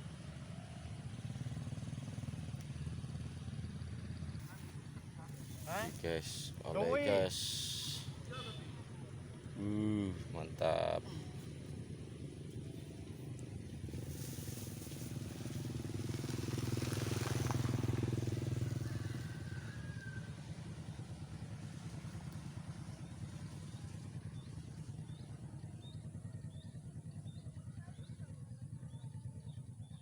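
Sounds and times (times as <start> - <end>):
vehicle engine passing by: 0.0 - 26.1
low pulsing engine hum: 0.0 - 30.0.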